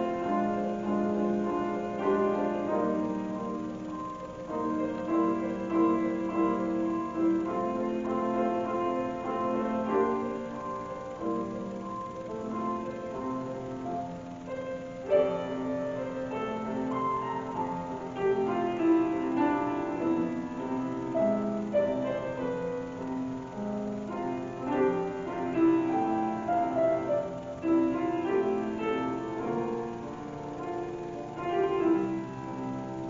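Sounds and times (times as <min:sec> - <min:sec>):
piano playing held chords: 0:00.0 - 0:33.0.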